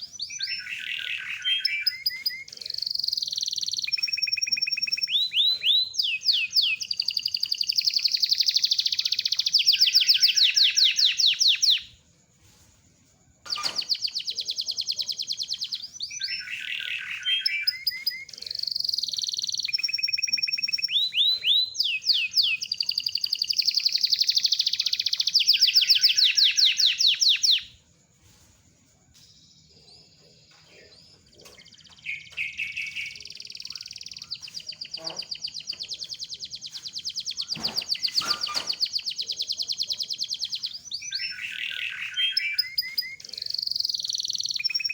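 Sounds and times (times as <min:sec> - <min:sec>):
canary singing trills: 0:00.0 - 0:12.0, 0:13.4 - 0:27.8, 0:29.2 - 0:44.9.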